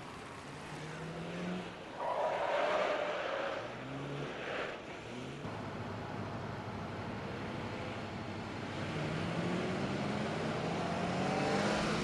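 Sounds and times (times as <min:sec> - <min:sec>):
cars driving fast: 0:00.0 - 0:05.9, 0:06.6 - 0:12.0.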